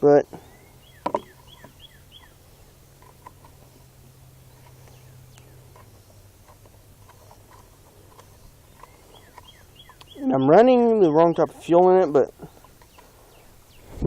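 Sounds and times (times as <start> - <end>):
steady low hum: 0.0 - 14.0
faint bird chirping: 0.1 - 14.0.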